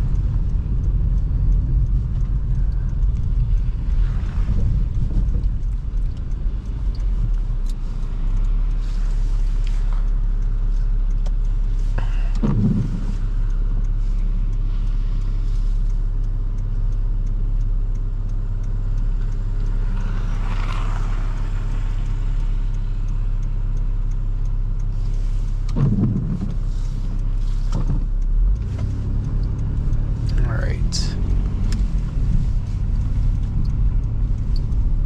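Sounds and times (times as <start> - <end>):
car engine and tyres droning: 0.0 - 35.0.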